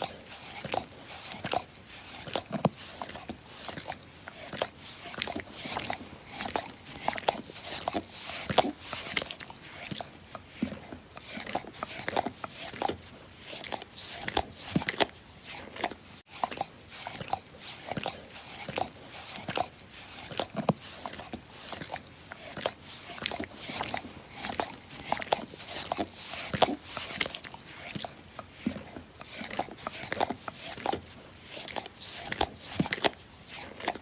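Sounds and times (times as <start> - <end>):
dog licking: 0.0 - 34.0.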